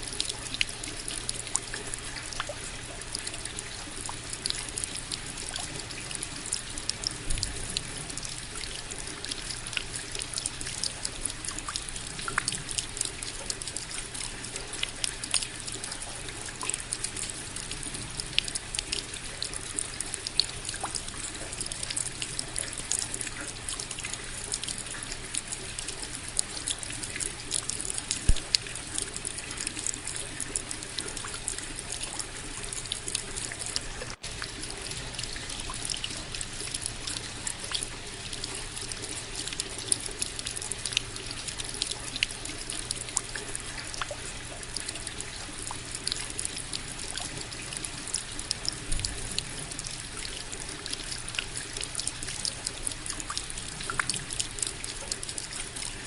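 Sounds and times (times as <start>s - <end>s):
raindrops ticking: 0.0s - 55.9s
steady rain: 0.0s - 56.0s.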